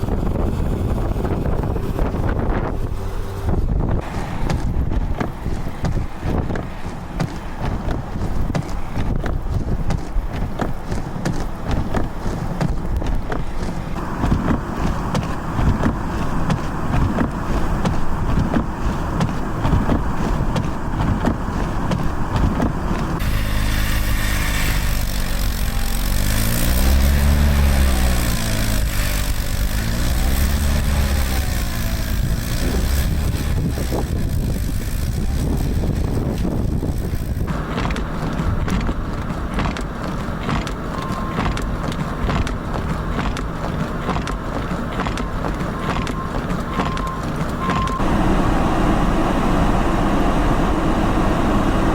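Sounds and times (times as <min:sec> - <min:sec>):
engine revving: 0:00.0 - 0:10.0, 0:10.6 - 0:51.9
heavy wind noise: 0:00.0 - 0:23.3, 0:28.2 - 0:51.9
vehicle engines: 0:00.0 - 0:51.9.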